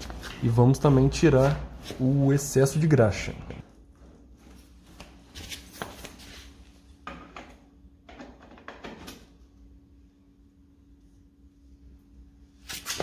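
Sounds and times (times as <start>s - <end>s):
faint steady hum: 0.0s - 12.8s.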